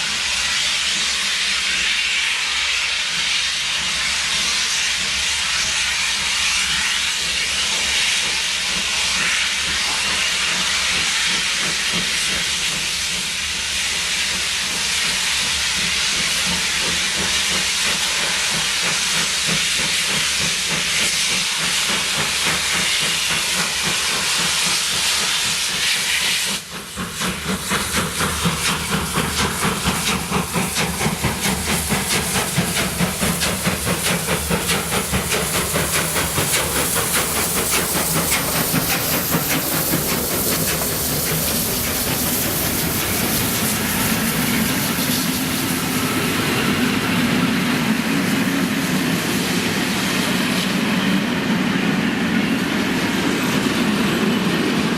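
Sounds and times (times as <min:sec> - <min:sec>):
steam hissing: 0:00.0 - 0:54.9
steam train rhythmic pulsing: 0:00.0 - 0:54.9.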